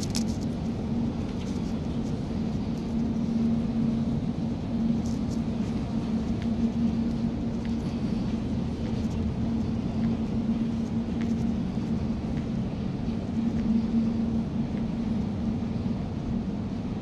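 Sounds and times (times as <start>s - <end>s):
building machinery hum: 0.0s - 17.0s.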